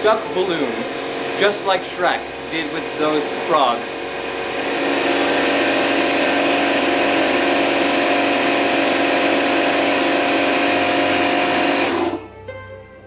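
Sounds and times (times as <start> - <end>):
electric air pump humming: 0.0 - 12.3.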